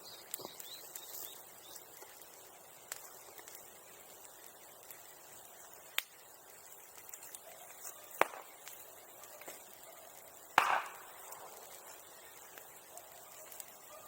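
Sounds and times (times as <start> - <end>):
bonfire crackling: 0.0 - 14.0
sharp fire pops: 0.1 - 14.0.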